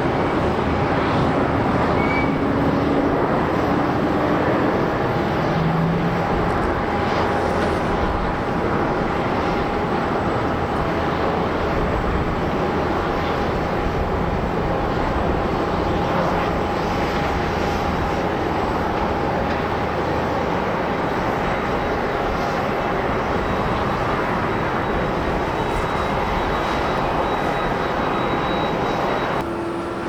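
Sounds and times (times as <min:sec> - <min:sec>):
jet airliner engines running: 0:00.0 - 0:30.0.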